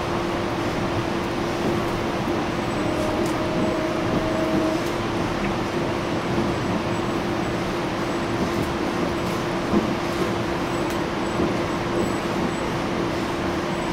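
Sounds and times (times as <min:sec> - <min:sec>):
train carriage rumble: 0:00.0 - 0:13.9.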